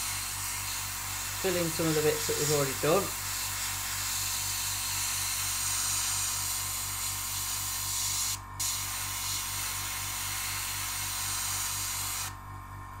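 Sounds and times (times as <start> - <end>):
airbrush air hiss: 0.0 - 12.3.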